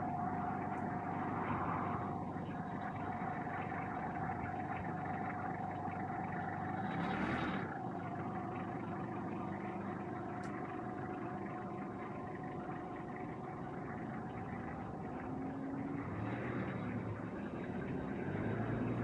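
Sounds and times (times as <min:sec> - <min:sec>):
distant road traffic rumble: 0:00.0 - 0:19.0
faint steady tone: 0:00.0 - 0:19.0.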